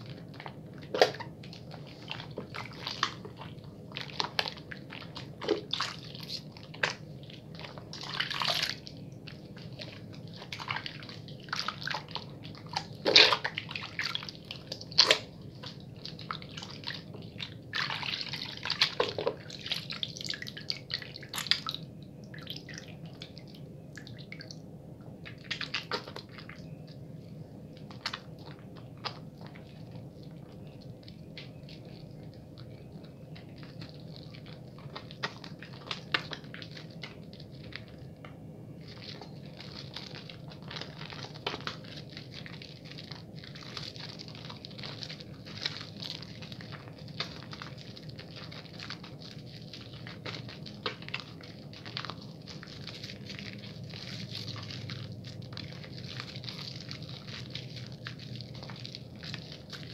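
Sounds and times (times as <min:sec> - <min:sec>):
hands lathering soap: 0:00.0 - 0:27.0, 0:27.7 - 0:59.9.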